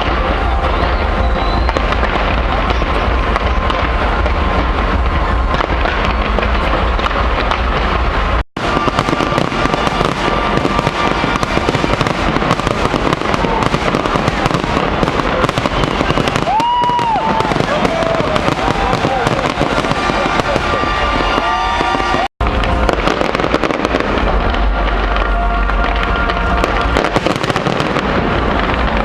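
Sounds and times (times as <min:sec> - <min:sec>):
fireworks crackling and bursting: 0:00.0 - 0:29.0.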